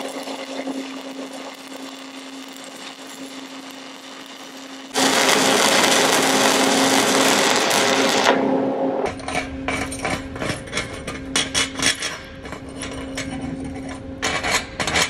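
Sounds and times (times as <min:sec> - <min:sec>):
steady hum: 0:00.0 - 0:14.9.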